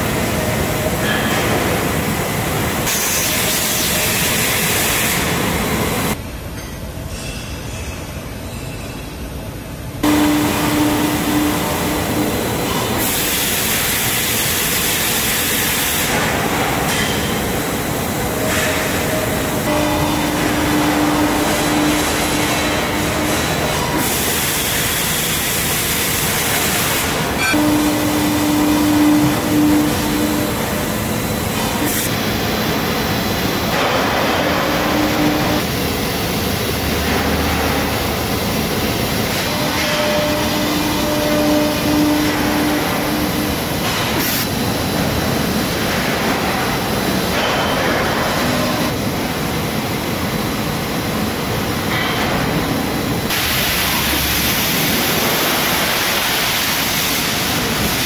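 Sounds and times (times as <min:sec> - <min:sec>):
pipe mill mechanical din: 0:10.0 - 0:58.0.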